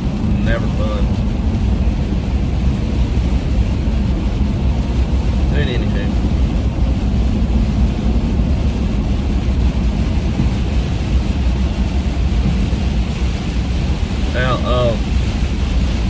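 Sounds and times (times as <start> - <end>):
road and engine noise in cabin: 0.0 - 16.0.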